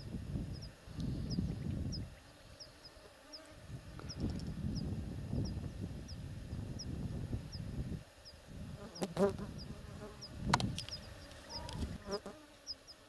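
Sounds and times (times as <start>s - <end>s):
small bird chirping: 0.5s - 12.0s, 12.6s - 13.0s.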